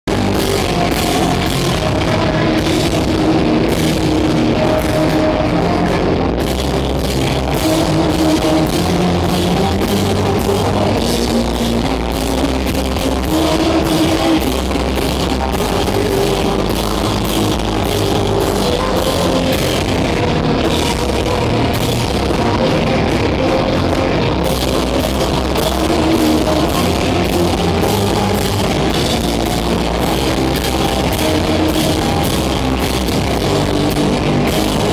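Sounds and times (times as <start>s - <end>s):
bass guitar: 0.0s - 34.9s
electric guitar: 0.0s - 34.9s
drum kit with cymbal hits: 0.1s - 34.9s.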